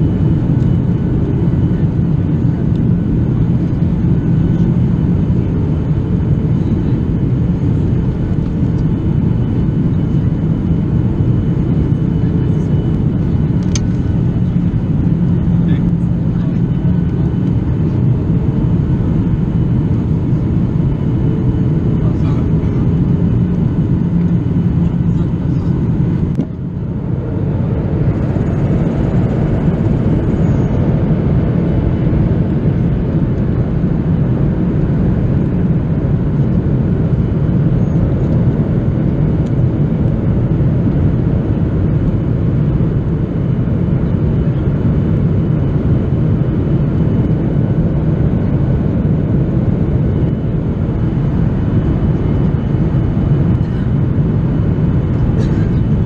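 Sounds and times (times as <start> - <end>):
airflow over fuselage: 0.0 - 56.0
jet engines droning: 0.0 - 56.0.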